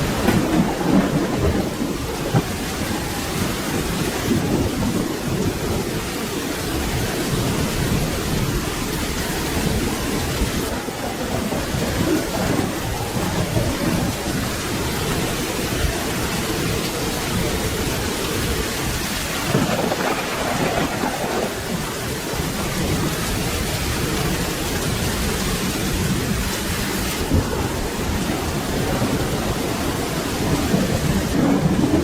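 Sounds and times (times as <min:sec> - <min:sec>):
low thunder rumbling: 0:00.0 - 0:32.0
steady rain: 0:00.0 - 0:32.0.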